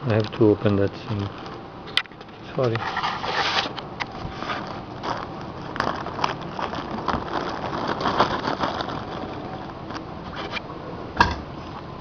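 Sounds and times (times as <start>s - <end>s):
plastic packaging crinkling: 0.0s - 1.6s, 2.3s - 10.6s.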